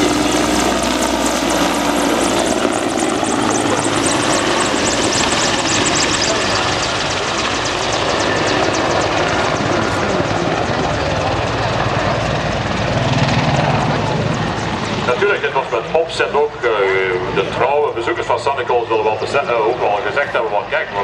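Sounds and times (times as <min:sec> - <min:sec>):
helicopter rotor chopping: 0:00.0 - 0:21.0.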